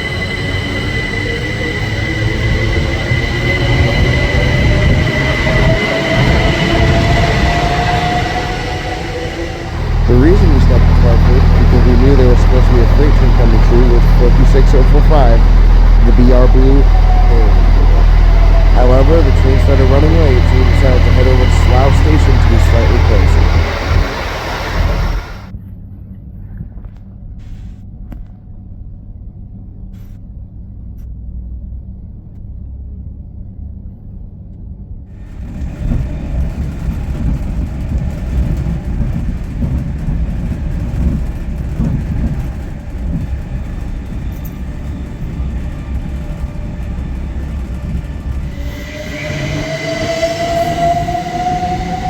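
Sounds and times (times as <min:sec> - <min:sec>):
train rumbling: 0:00.0 - 0:25.5, 0:35.1 - 0:52.0.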